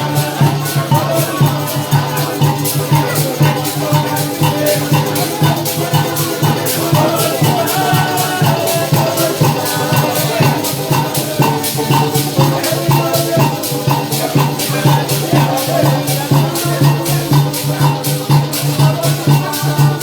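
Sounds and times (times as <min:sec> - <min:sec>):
maracas shaking: 0:00.0 - 0:20.0.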